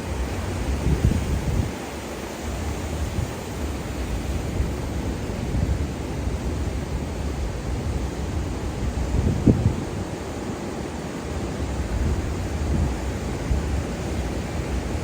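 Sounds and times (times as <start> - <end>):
ocean waves washing on beach: 0.0 - 15.0
wind buffeting microphone: 0.0 - 15.0.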